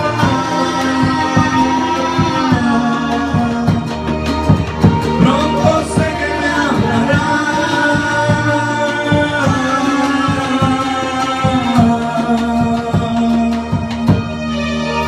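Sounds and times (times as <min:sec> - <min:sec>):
person singing: 0:00.0 - 0:14.4.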